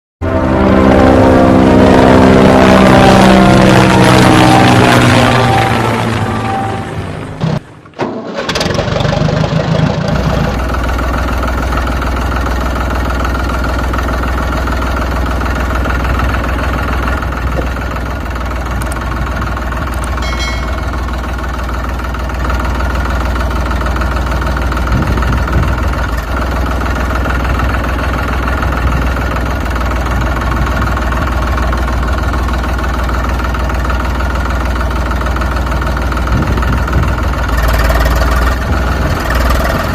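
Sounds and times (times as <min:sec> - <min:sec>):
engine starting and idling: 0:07.3 - 0:39.9.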